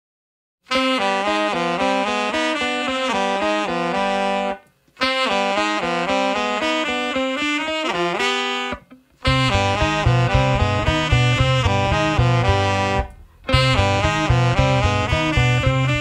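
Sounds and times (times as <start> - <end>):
saxophone melody: 0.7 - 16.0.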